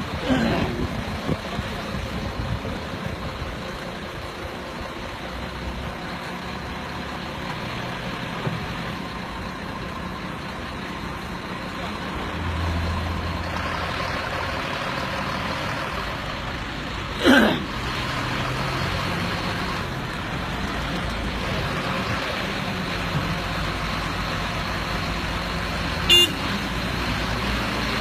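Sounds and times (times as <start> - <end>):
heavy truck engine under load: 0.0 - 28.0.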